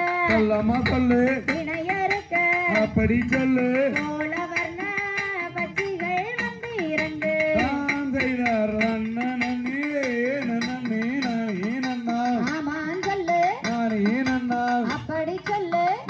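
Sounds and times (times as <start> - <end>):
person singing folk song: 0.0 - 16.0
sharp percussive hits: 0.0 - 16.0.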